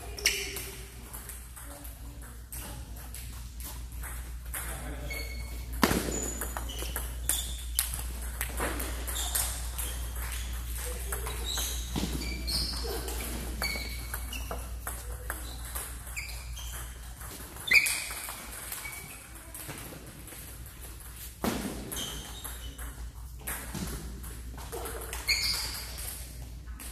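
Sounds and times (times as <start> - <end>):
ping pong ball hitting paddles: 0.1 - 26.2.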